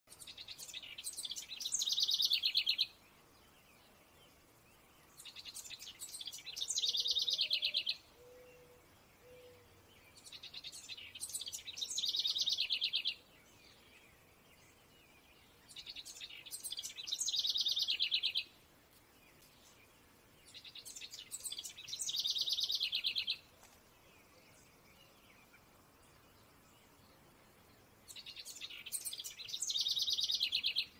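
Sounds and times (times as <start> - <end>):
songbird singing with trill: 0.1 - 30.9.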